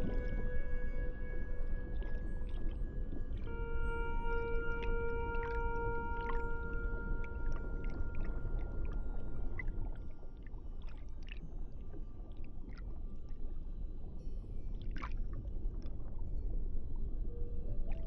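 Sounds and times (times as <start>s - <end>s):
underwater low rumble: 0.0s - 18.0s.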